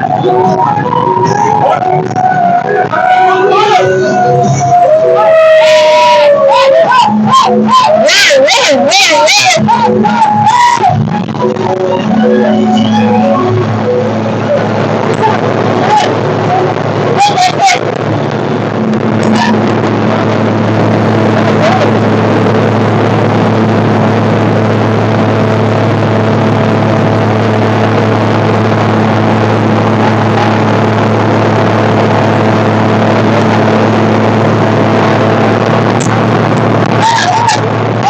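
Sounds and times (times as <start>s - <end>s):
loud rushing noise: 0.0s - 38.0s
motorboat engine humming: 0.0s - 38.0s.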